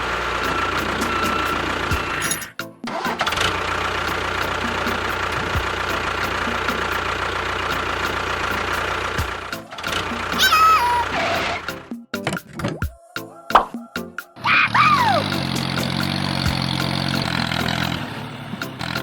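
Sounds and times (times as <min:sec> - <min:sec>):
background music: 0:00.0 - 0:03.5, 0:04.1 - 0:07.1, 0:07.7 - 0:19.0
engine running: 0:00.0 - 0:11.9, 0:14.4 - 0:19.0.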